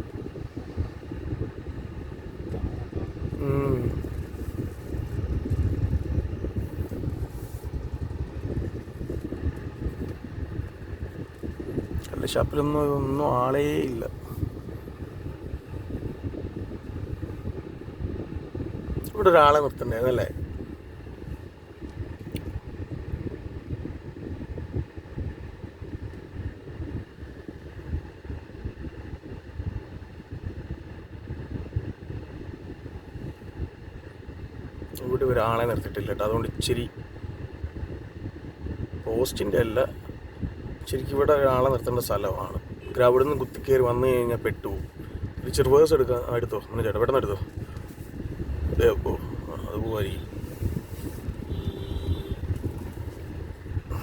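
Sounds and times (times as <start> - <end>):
car engine and road noise: 0.0 - 31.5, 36.7 - 54.0.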